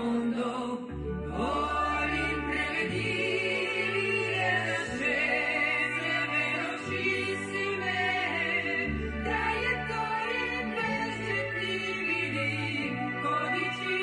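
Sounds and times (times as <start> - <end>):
voices singing: 0.0 - 14.0.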